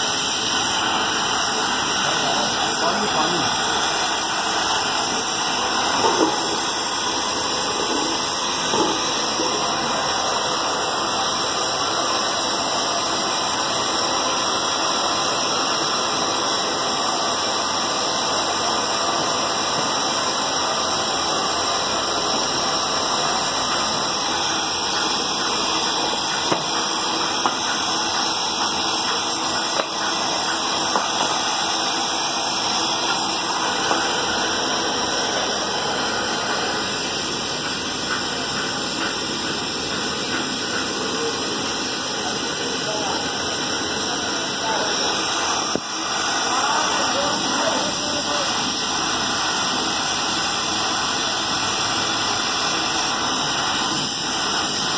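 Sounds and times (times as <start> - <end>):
welding torch flame hissing: 0.0 - 54.9.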